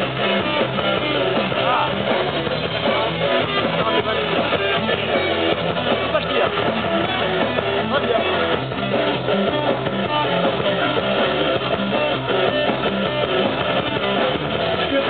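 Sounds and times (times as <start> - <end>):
drum kit: 0.0 - 15.0
electric guitars strummed: 0.0 - 15.0.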